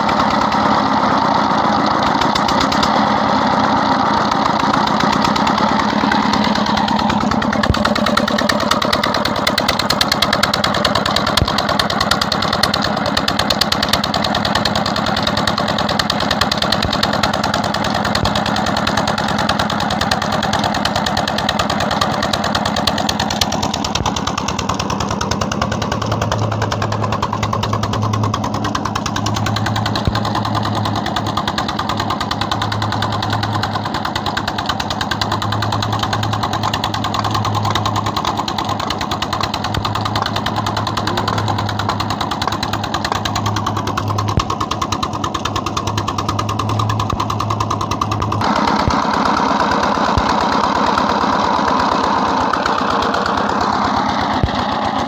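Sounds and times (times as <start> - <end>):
diesel engine knocking beat: 0.0 - 55.0.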